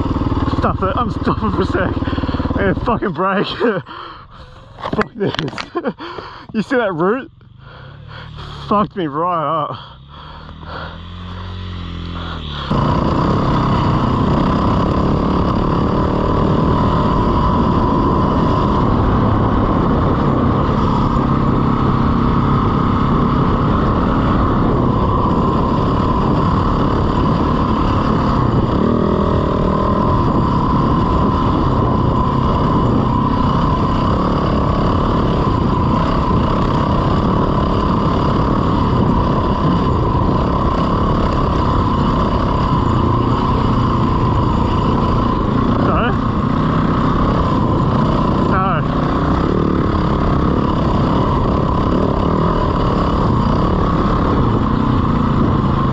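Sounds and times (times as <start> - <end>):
dirt bike engine: 0.0 - 55.9.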